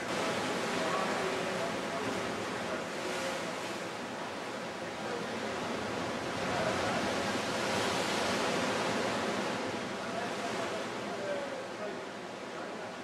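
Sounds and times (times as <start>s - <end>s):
sea surf against rocks: 0.0s - 13.0s.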